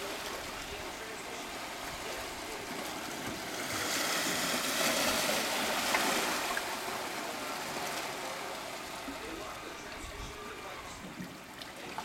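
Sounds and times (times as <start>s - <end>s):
water washing along shore: 0.0s - 12.0s.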